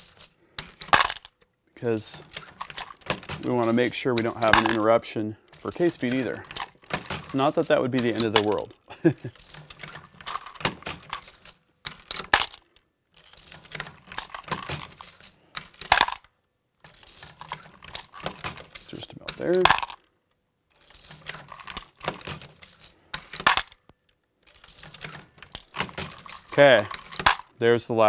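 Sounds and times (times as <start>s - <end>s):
metallic clinking and rattling: 0.0s - 1.4s, 2.0s - 27.6s.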